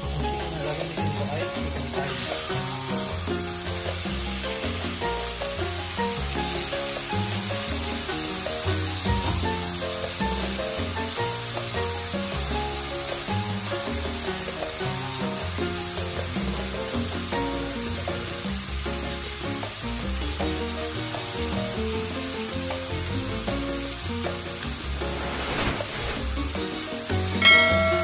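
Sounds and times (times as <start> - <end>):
background music: 0.0 - 28.0
chicken sizzling in oil: 0.0 - 28.0.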